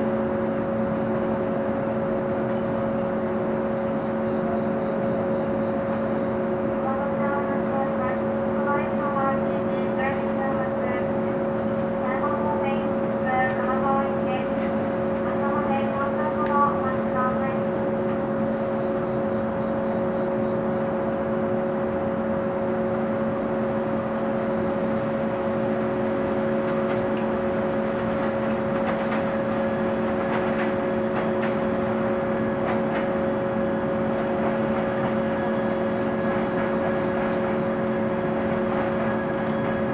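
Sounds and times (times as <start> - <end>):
electric train machinery humming: 0.0 - 39.9.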